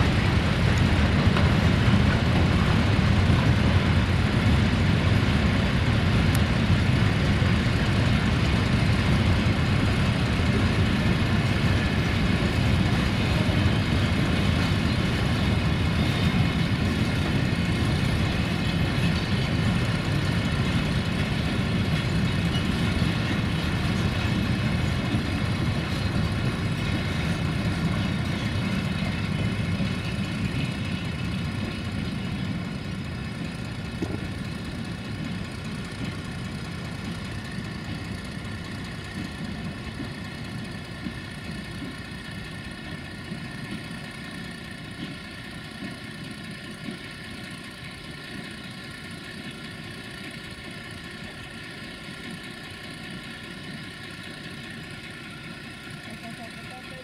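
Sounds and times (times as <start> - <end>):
freight train wagons rumbling: 0.0 - 57.0.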